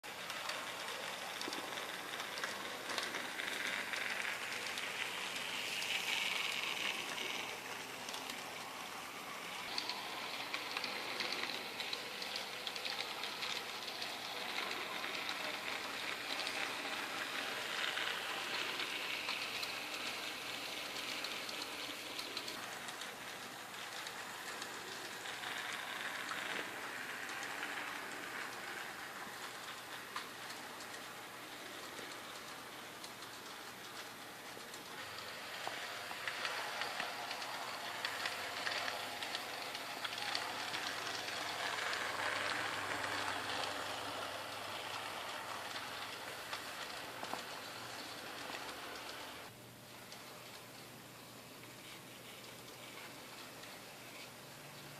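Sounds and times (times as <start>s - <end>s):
model train wheels rattling: 0.1s - 49.5s.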